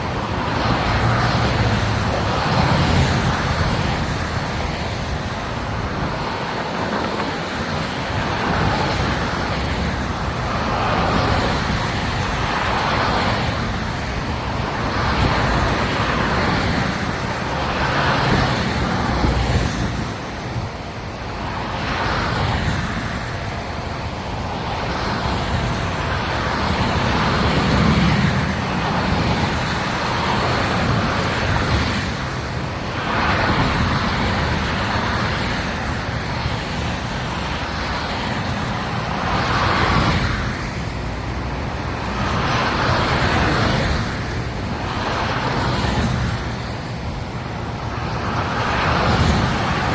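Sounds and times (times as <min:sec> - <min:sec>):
highway traffic rushing: 0:00.0 - 0:49.9.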